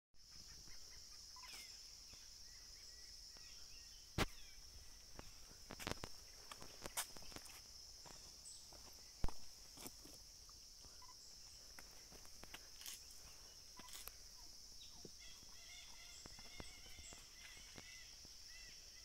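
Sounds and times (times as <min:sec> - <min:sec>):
faint bird chirps: 0:00.2 - 0:09.7, 0:10.4 - 0:19.0
insects droning: 0:00.2 - 0:19.0.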